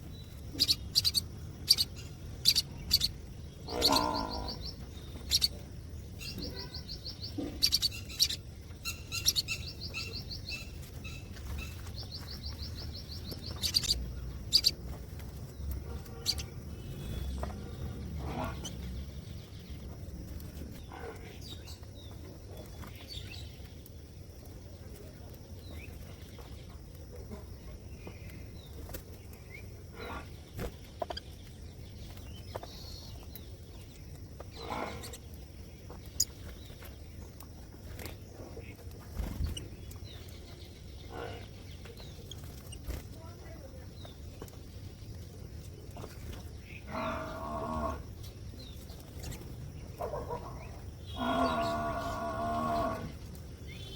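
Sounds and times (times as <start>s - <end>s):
birds chirping faintly: 0.0s - 53.9s.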